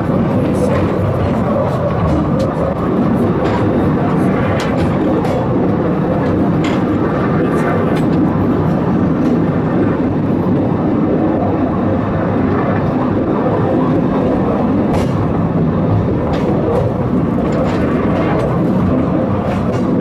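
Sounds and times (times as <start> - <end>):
funicular car rumbling on rails: 0.0 - 20.0.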